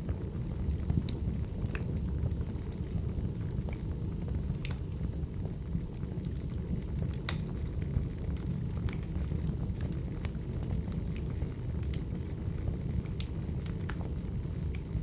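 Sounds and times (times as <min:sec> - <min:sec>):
low rumble of fire: 0:00.0 - 0:15.0
wood crackling and popping: 0:00.0 - 0:15.0.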